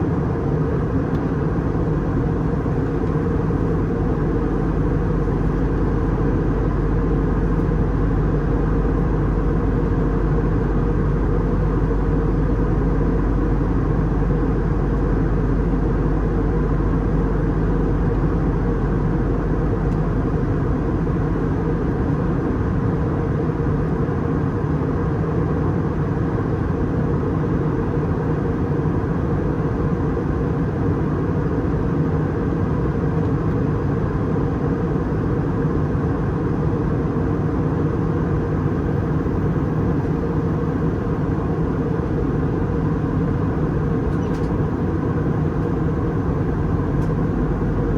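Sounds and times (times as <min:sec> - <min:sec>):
aircraft engines droning: 0:00.0 - 0:47.9.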